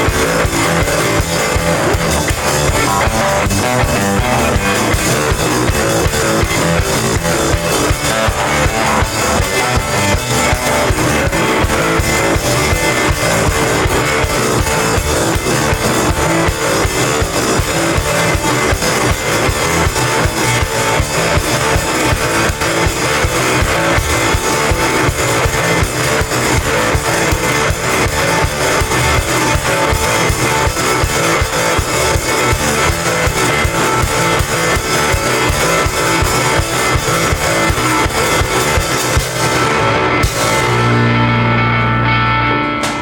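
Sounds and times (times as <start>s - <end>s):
fast drumming: 0.0s - 41.3s
electric guitar: 0.0s - 43.0s.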